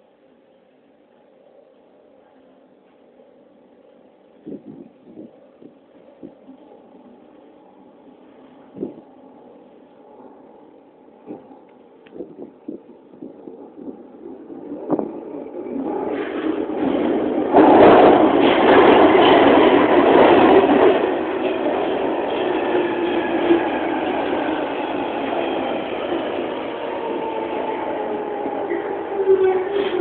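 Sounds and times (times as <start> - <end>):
train rumbling into platform: 0.0 - 30.0.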